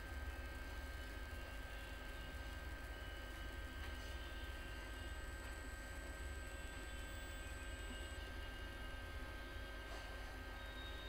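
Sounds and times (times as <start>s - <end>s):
thin steady high tones: 0.0s - 9.8s
electrical hum: 0.0s - 11.0s.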